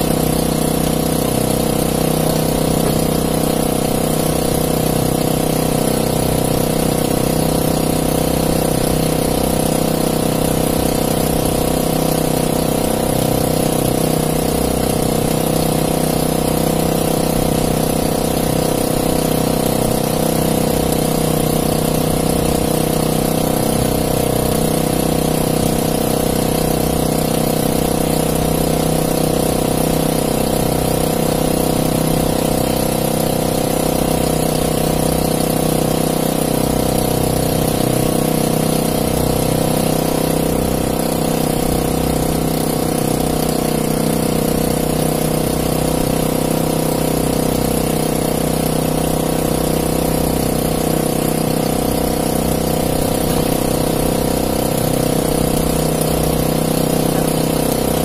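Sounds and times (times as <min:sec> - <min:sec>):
boat engine running steadily: 0:00.0 - 0:58.0.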